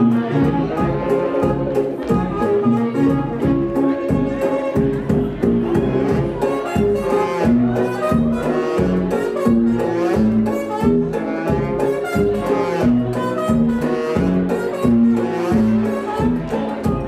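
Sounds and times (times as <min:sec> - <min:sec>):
jazz dance tune: 0:00.0 - 0:17.0.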